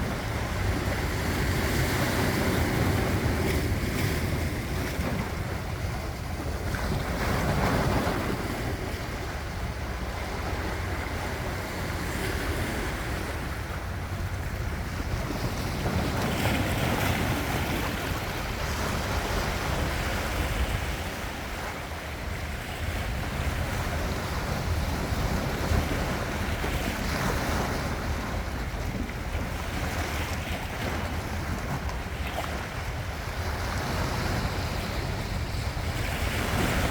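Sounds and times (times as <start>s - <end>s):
ocean waves breaking: 0.0s - 36.9s
wind rumbling on microphone: 0.0s - 36.9s.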